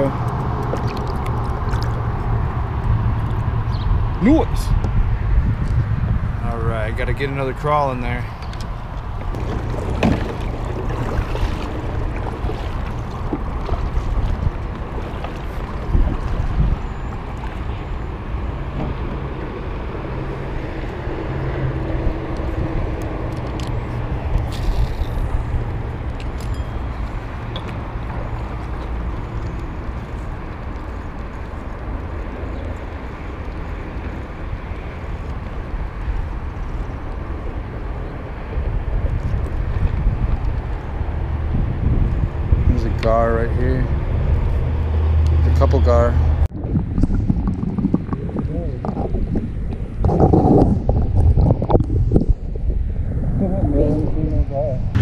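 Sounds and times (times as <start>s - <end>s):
water around kayak: 0.0s - 55.0s
wind rumble on microphone: 0.0s - 55.0s.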